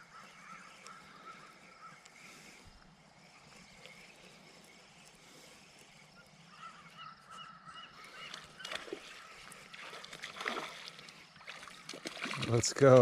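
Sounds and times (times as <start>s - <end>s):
bird calls: 0.0s - 13.0s.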